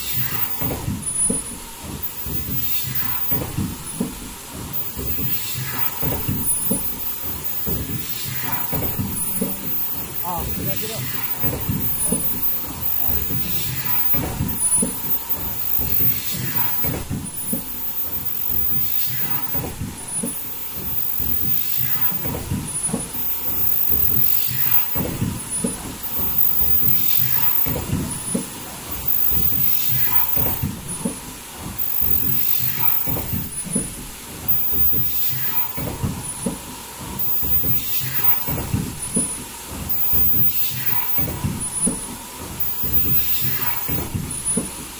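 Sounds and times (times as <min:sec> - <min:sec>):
high-pitched machine whine: 0:00.0 - 0:44.9
machine clatter: 0:00.0 - 0:44.9
machine knock: 0:00.0 - 0:44.9.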